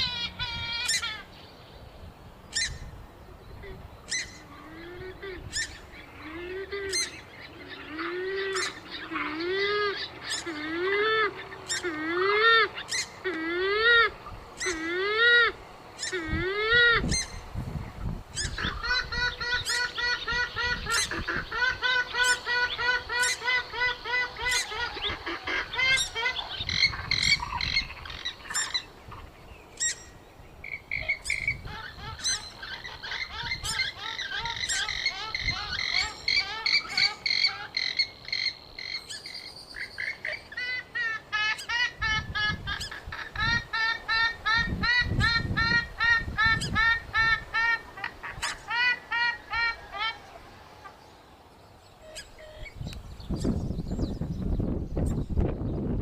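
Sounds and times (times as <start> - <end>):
bird honking calls: 0.0 - 1.6, 2.5 - 17.5, 18.3 - 51.0, 52.0 - 53.5.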